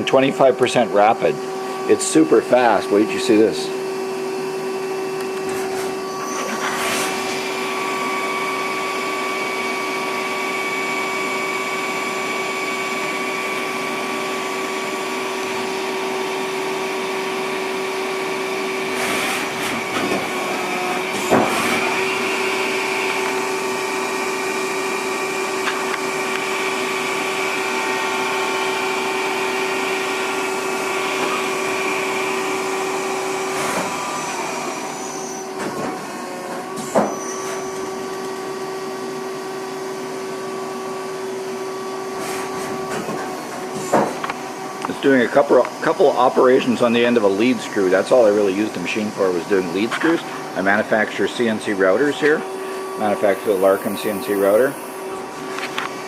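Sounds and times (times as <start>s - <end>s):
lathe spindle whine: 0.0s - 56.0s.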